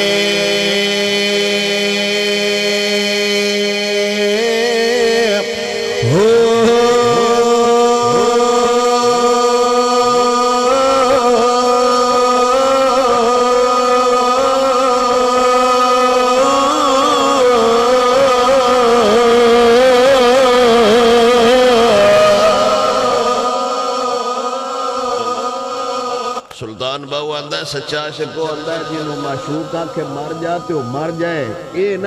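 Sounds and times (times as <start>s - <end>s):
man singing long note: 0.0s - 26.4s, 28.0s - 32.0s.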